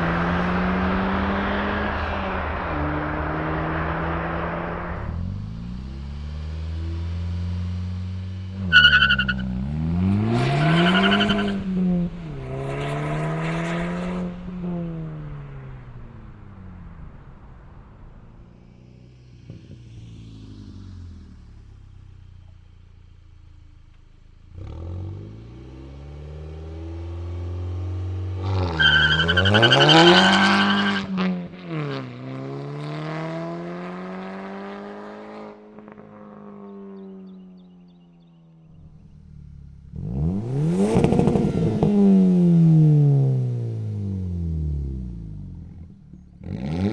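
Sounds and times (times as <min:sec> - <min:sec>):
car engine revving: 0:00.0 - 0:21.7, 0:24.5 - 0:35.6, 0:38.7 - 0:46.9.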